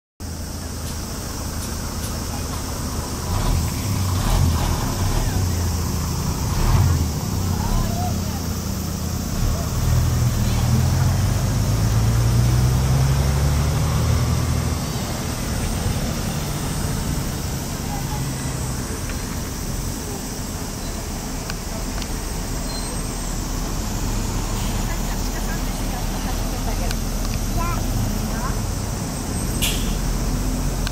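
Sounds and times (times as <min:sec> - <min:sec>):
bus and cars passing: 0:00.2 - 0:30.9
street traffic road noise: 0:00.2 - 0:30.9.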